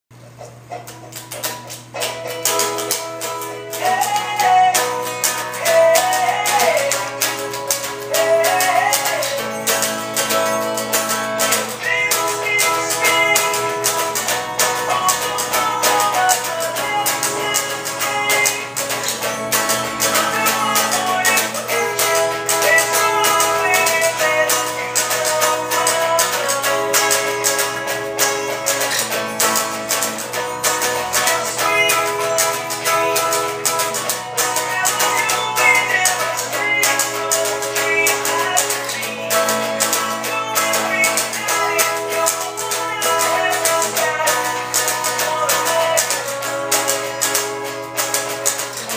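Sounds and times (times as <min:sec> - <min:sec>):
electric guitar strumming: 0:00.1 - 0:48.9
gliding melody line: 0:02.4 - 0:48.9.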